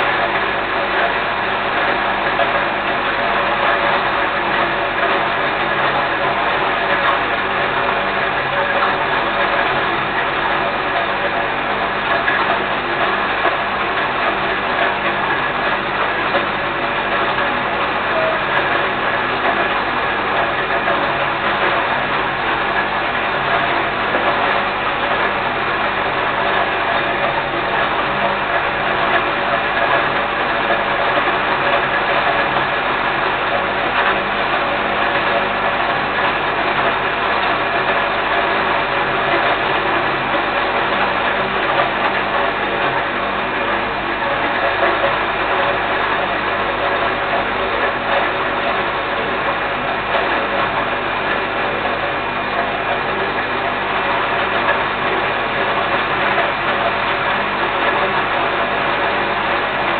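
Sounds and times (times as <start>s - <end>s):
electric grain mill grinding: 0.0s - 59.9s.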